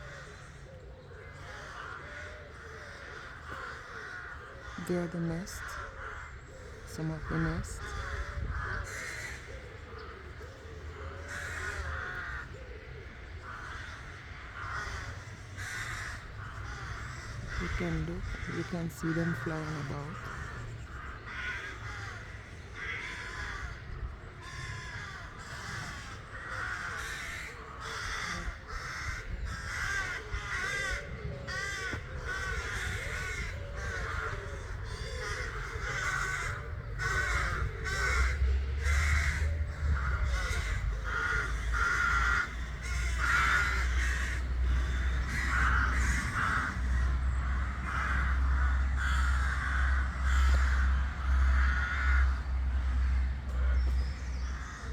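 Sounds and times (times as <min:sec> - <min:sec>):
ravens cawing: 0:00.0 - 0:54.9.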